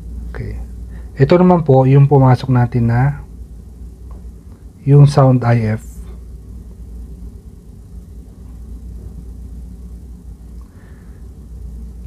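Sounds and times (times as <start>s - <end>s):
low background rumble and hum: 0.0s - 12.0s.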